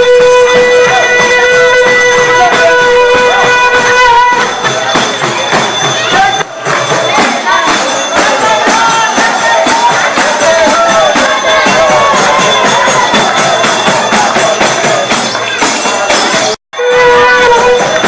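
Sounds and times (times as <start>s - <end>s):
cymbals clashing: 0.0s - 18.0s
shehnai reed melody: 0.0s - 18.0s
steady drum beats: 0.0s - 18.0s.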